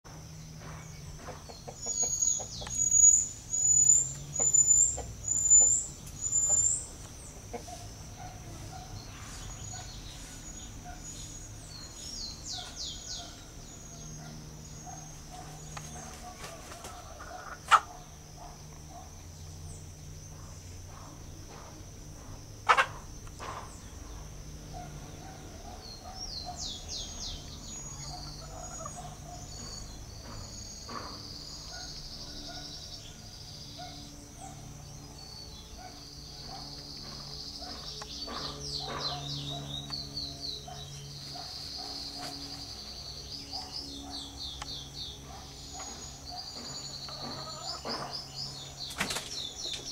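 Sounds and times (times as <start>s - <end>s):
high insect drone: 0.1s - 49.9s
small birds chirping: 0.1s - 49.9s.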